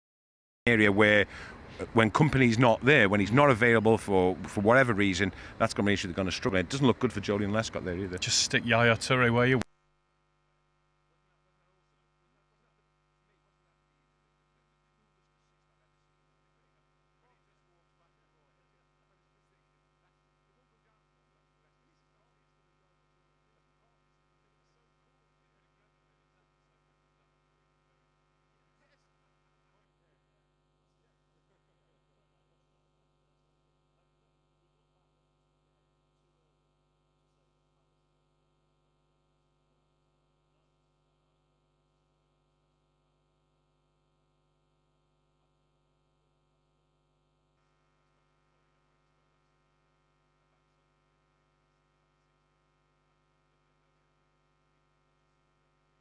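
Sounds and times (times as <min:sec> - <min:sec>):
faint electrical hum: 0:00.7 - 0:56.0.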